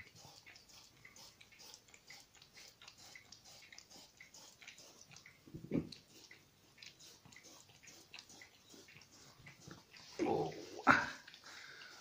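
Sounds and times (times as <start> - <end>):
dog licking plastic board: 0.0 - 12.0.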